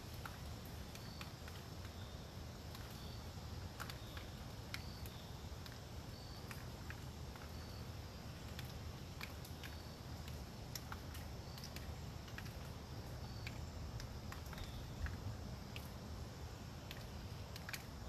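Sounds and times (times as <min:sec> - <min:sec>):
storm wind through trees: 0:00.0 - 0:18.0.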